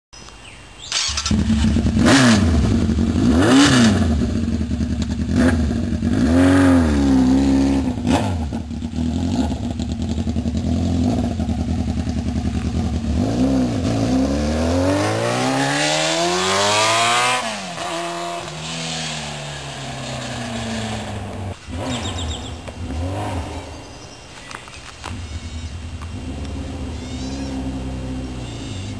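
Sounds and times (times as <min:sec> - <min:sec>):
motorcycle engine revving: 0:00.9 - 0:24.1, 0:25.0 - 0:28.9
motorcycle pulling away: 0:00.9 - 0:24.1, 0:25.0 - 0:28.9.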